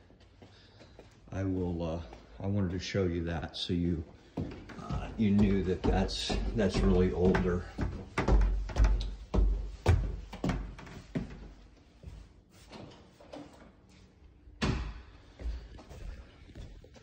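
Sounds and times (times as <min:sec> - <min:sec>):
footsteps on wooden stairs and tile: 0:00.0 - 0:14.3, 0:15.1 - 0:17.0.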